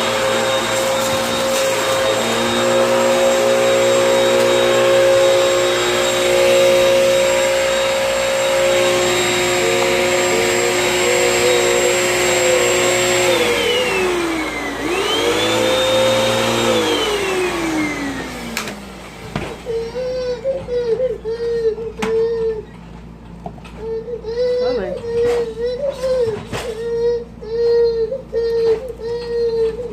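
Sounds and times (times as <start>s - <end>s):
vacuum cleaner motor: 0.0s - 29.9s.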